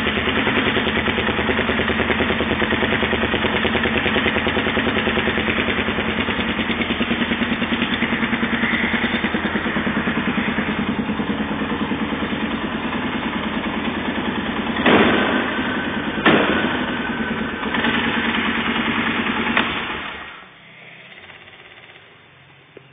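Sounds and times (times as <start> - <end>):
atv engine idling: 0.0 - 22.9
engine throttle blips: 0.0 - 22.9.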